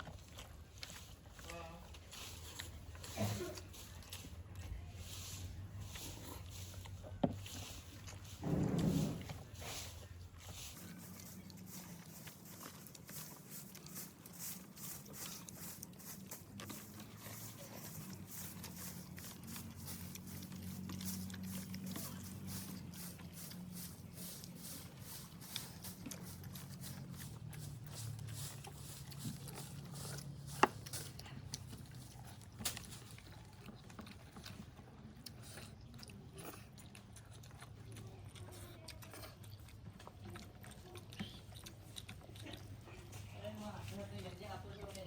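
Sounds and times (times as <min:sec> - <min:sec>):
people chewing: 0:00.0 - 0:45.0.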